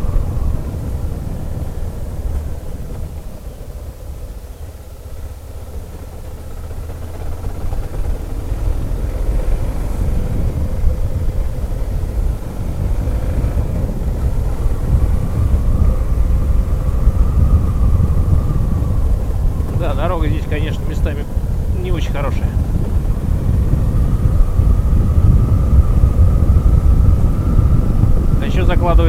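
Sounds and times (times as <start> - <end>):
motorcycle engine running: 0.0 - 29.0
wind rumble on microphone: 0.0 - 29.0.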